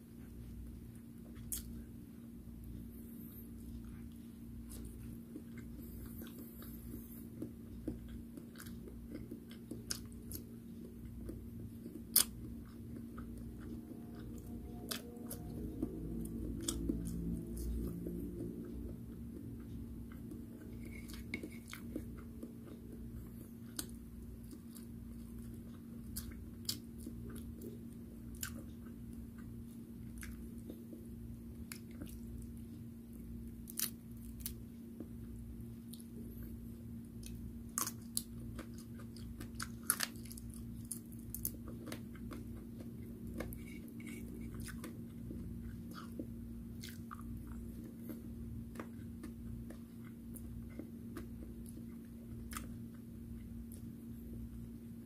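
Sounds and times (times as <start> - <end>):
low steady hum: 0.0 - 55.0
chewing fried food: 0.2 - 54.8.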